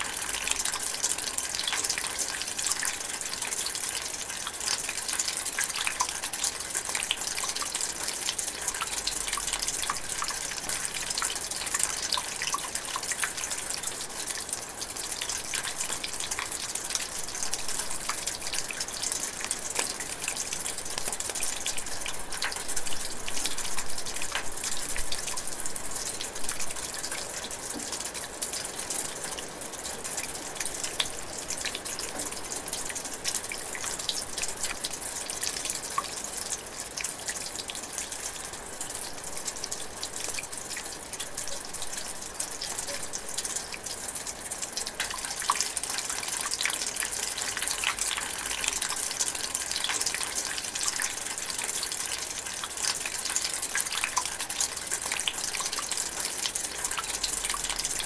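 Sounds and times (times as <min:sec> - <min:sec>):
close drips and patters: 0:00.0 - 0:58.0.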